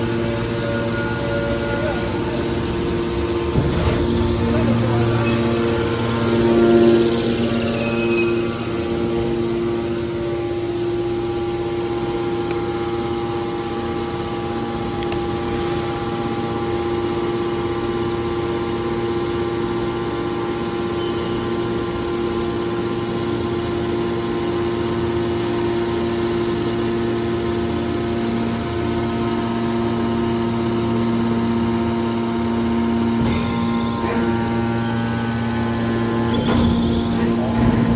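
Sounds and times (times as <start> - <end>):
baler machine droning: 0.0 - 37.9.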